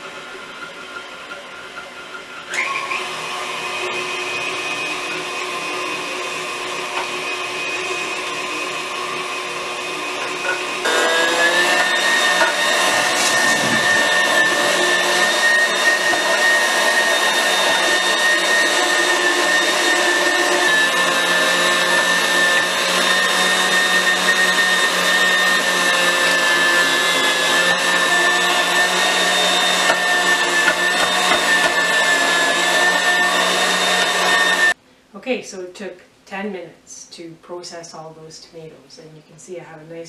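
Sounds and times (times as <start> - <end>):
stand mixer motor drone with whine: 0.0 - 34.8.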